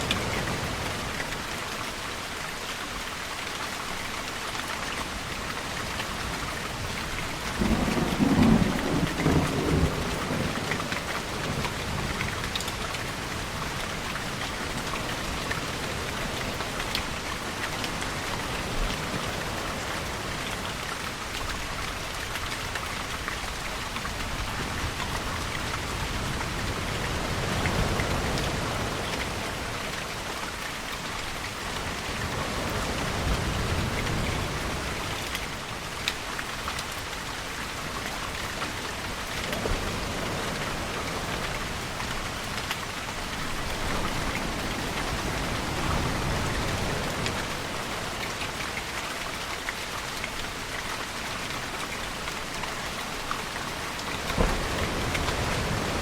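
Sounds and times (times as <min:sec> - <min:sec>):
ocean waves: 0:00.0 - 0:56.0
steady rainfall: 0:00.0 - 0:56.0.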